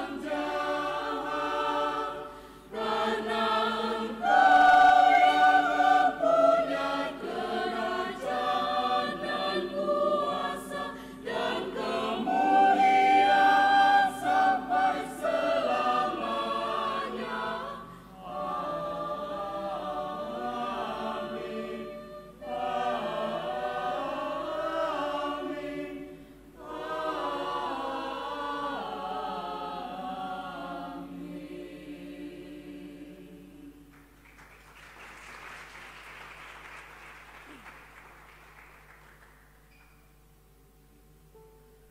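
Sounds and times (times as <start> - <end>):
mixed choir singing: 0.0 - 33.9.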